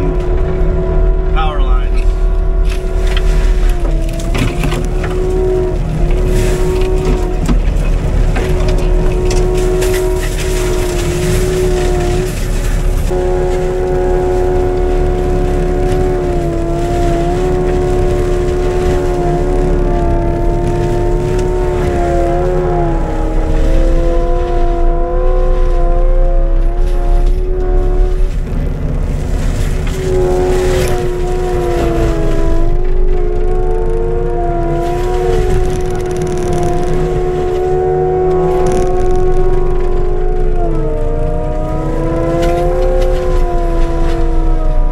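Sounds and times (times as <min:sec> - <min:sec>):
engine rumble: 0:00.0 - 0:44.9
high mulcher whine: 0:00.0 - 0:44.9
brush and wood crackling: 0:01.9 - 0:44.9.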